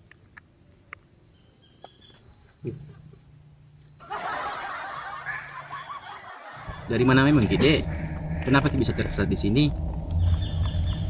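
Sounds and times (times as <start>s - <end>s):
noisy outdoor ambience: 0.0s - 11.0s.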